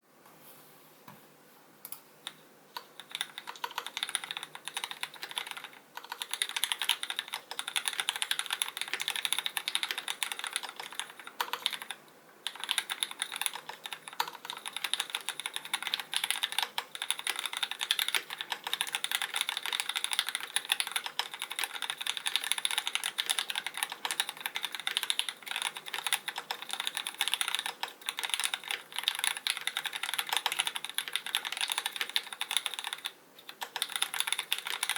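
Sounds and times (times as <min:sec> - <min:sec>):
mechanical keyboard typing: 0:02.2 - 0:34.9.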